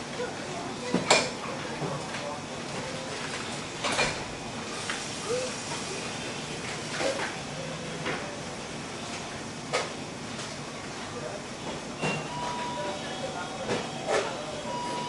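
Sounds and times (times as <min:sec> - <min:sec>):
store background hum: 0:00.0 - 0:15.0.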